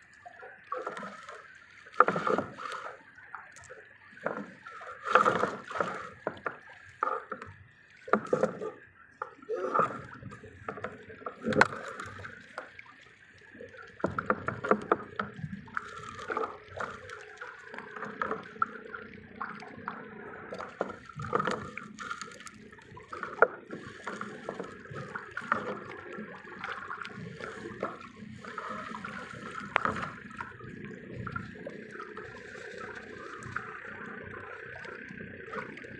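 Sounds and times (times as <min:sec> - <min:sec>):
water splashing and gurgling: 0:00.0 - 0:35.9.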